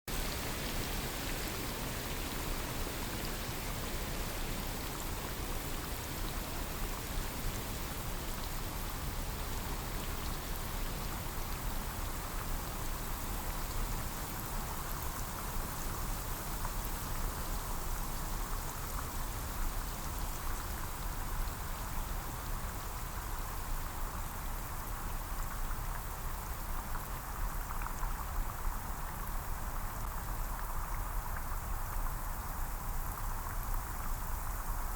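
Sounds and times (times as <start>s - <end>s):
rain pattering on leaves: 0.1s - 34.9s.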